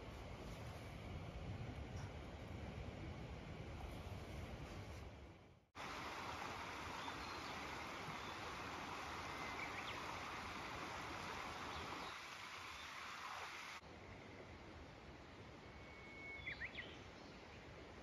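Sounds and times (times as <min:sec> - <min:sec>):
steady rushing hiss: 0:00.0 - 0:15.7
low rumbling hiss: 0:00.0 - 0:18.0.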